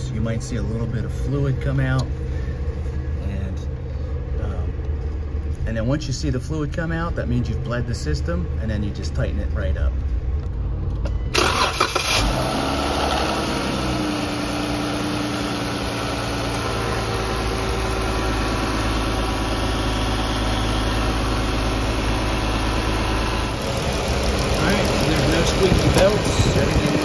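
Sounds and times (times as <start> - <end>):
car engine starting and idling: 0.0 - 27.0.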